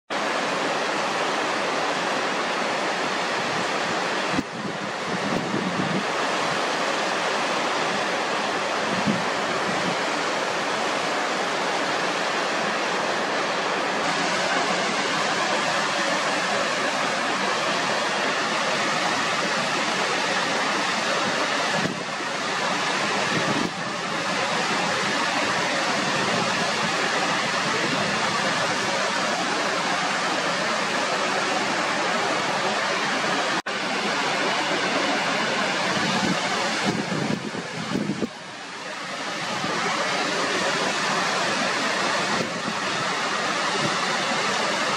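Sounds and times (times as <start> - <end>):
water cascading down rock: 0.1 - 44.9.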